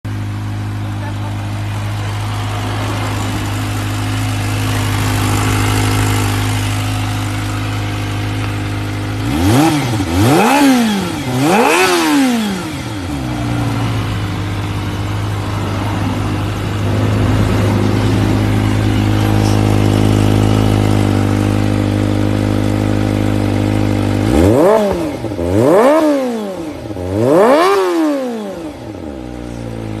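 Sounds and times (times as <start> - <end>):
engine idling: 0.0 - 25.5, 28.4 - 30.0
engine revving: 0.2 - 30.0.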